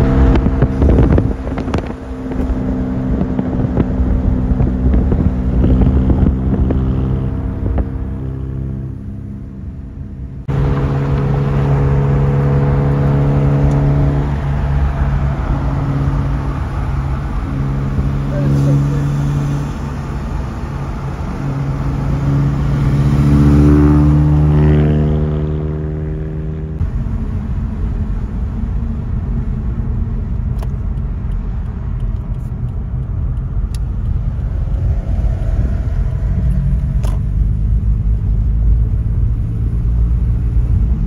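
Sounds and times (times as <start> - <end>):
car cruising drone: 0.0 - 41.0
car engine revving: 0.0 - 41.0.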